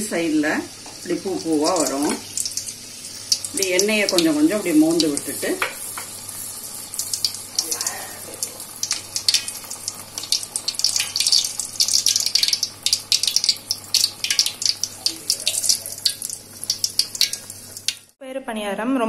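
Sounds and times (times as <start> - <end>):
batter deep-frying in hot oil: 0.0 - 18.2.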